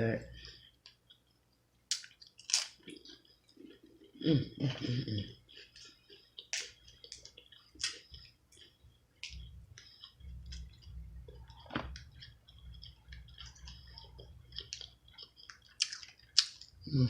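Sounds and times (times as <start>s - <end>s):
wet chewing and lip smacking: 0.4s - 4.2s, 5.3s - 16.9s.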